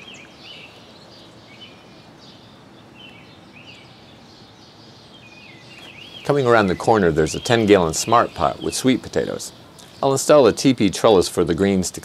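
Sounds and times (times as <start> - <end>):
low outdoor hum: 0.0 - 12.0
small birds chirping: 0.0 - 12.0.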